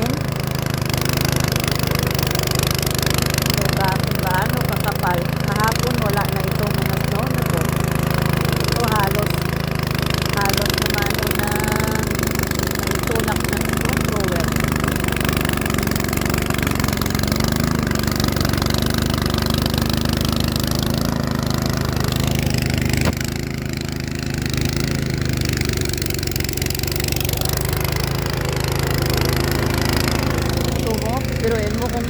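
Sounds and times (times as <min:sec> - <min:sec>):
snow thrower engine running: 0:00.0 - 0:32.0.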